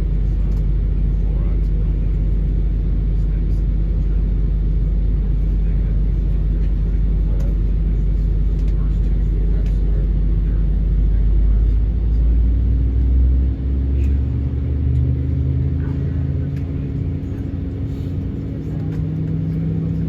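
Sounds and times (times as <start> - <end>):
heavy low rumble: 0.0 - 20.0
jet engines at high power: 0.0 - 20.0
steady engine drone: 0.0 - 20.0.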